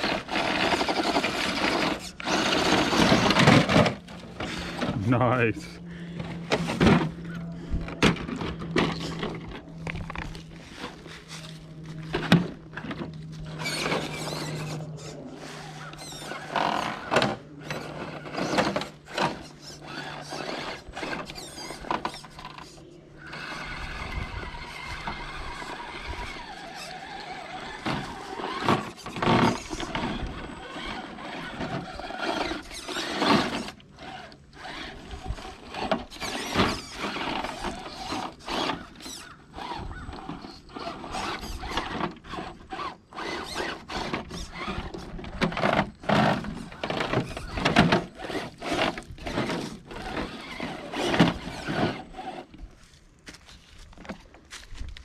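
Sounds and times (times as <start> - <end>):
knocks and scrapes on rock: 0.0 - 5.0, 6.5 - 55.0
electric motor whining: 0.0 - 52.8.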